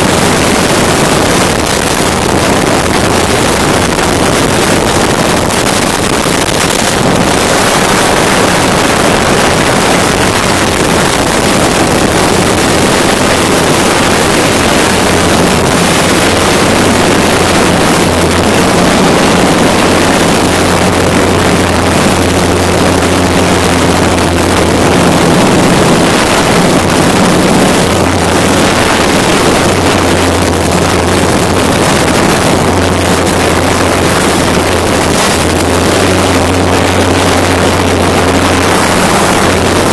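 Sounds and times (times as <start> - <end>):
drone motors humming: 0.0 - 39.9
wind on microphone: 0.0 - 39.9.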